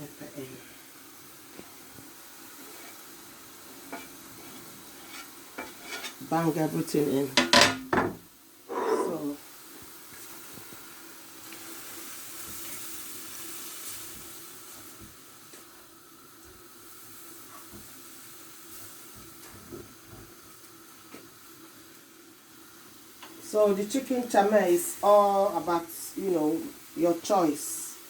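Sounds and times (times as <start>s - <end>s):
food sizzling in a hot pan: 0.0s - 28.0s.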